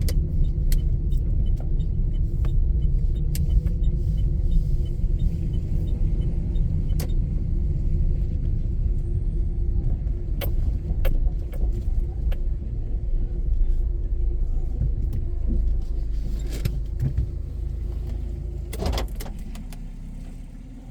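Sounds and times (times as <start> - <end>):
car driving low rumble: 0.0 - 20.9.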